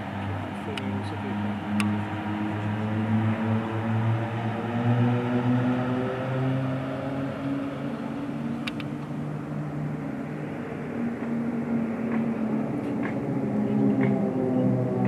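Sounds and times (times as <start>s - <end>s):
propeller aircraft drone: 0.0s - 15.0s.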